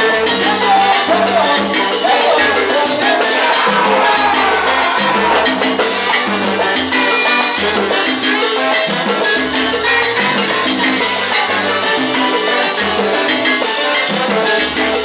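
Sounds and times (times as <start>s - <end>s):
salsa band playing: 0.0s - 15.0s.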